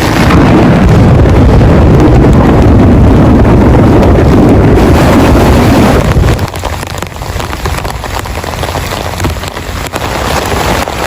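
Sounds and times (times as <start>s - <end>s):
deep rumble of thunder: 0.0s - 11.0s
heavy rain: 0.0s - 11.0s.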